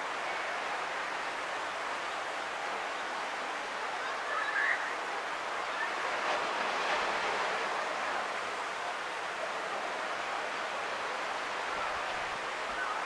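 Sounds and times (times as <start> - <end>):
distant surf on beach: 0.0 - 13.0.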